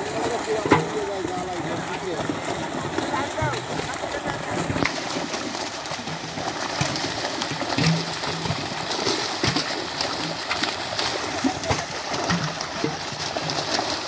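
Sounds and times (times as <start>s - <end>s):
fish thrashing and splashing: 0.0s - 14.0s.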